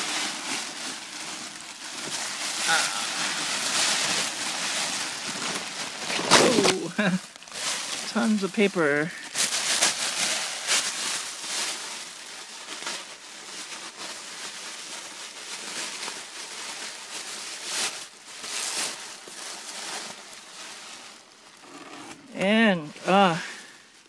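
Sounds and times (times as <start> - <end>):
packing paper crinkling: 0.0 - 24.0.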